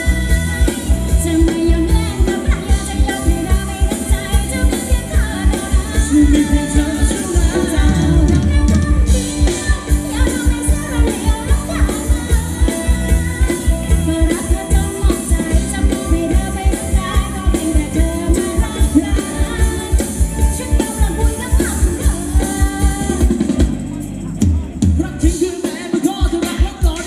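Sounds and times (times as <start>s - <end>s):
person singing: 0.0s - 23.7s, 24.5s - 27.0s
live band dance music: 0.0s - 27.0s.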